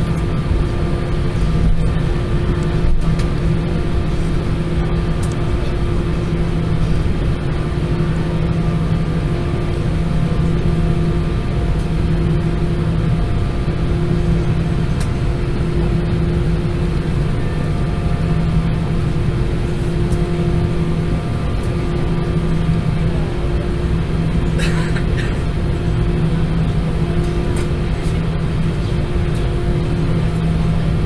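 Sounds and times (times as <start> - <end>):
aircraft cabin drone: 0.0 - 31.0.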